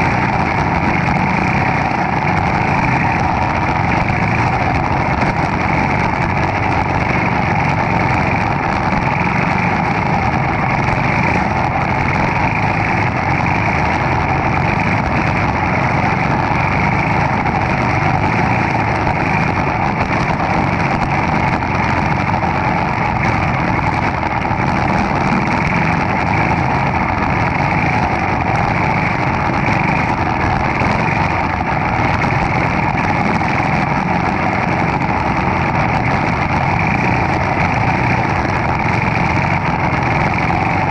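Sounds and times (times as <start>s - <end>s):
kart engine running loudly: 0.0s - 40.9s.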